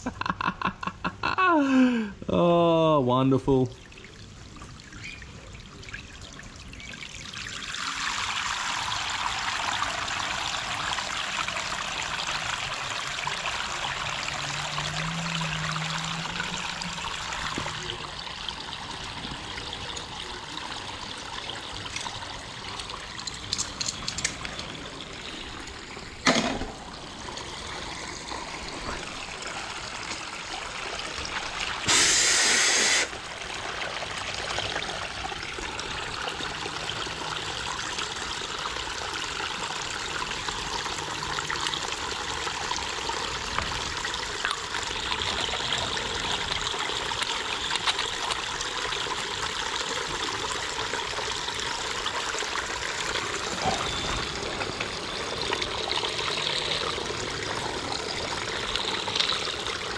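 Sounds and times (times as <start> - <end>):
water rushing into drain: 2.9 - 59.9.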